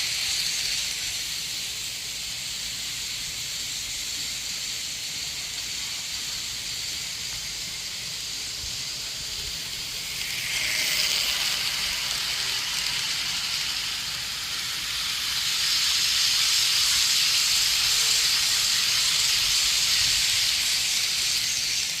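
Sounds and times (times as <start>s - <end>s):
model trains running on rails: 0.0s - 22.0s.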